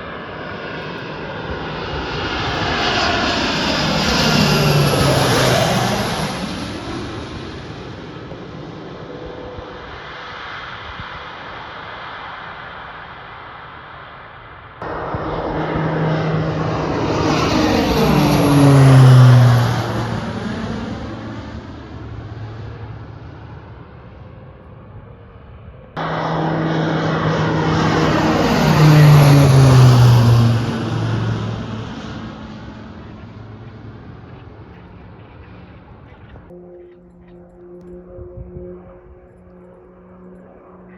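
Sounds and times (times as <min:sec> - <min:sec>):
aircraft engine passing: 0:00.0 - 0:40.9.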